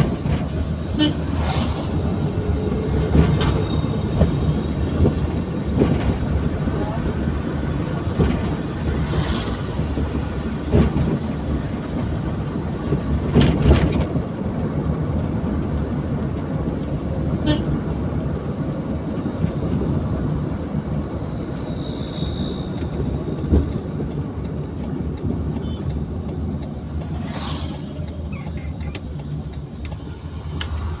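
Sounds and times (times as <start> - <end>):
car engine and tyres rumbling: 0.0 - 31.0
vehicles passing: 0.0 - 31.0.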